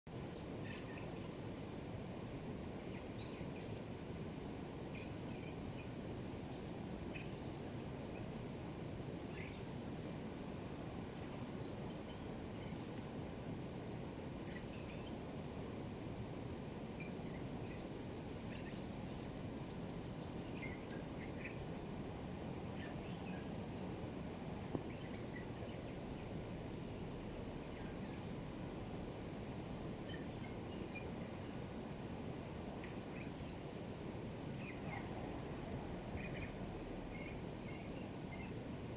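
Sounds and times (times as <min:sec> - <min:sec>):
faint bird singing: 0:00.1 - 0:38.9.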